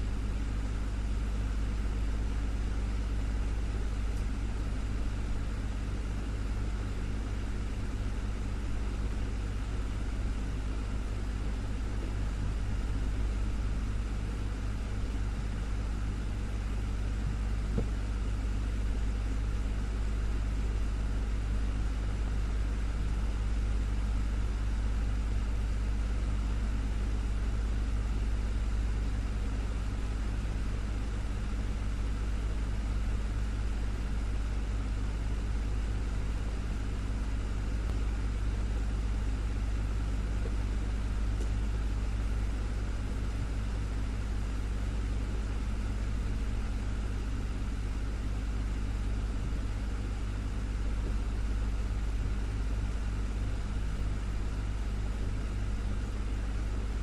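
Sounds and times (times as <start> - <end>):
desktop fan humming: 0.0 - 57.0.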